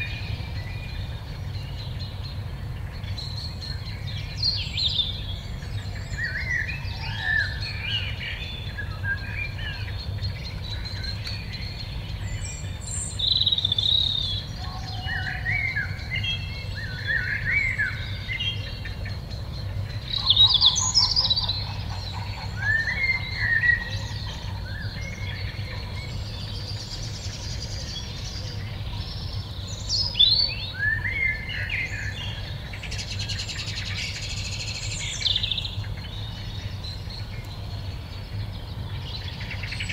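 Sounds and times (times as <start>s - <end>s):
songbirds warbling: 0.0s - 39.9s
steady low hum: 0.0s - 39.9s.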